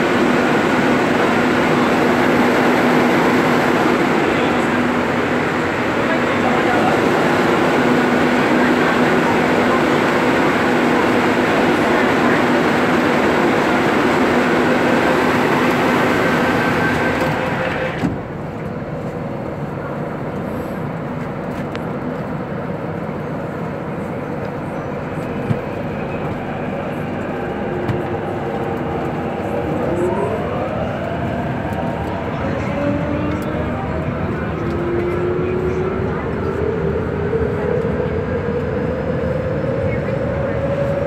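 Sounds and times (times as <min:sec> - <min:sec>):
quiet train hum: 0:00.0 - 0:41.0
train running noise: 0:00.0 - 0:41.0.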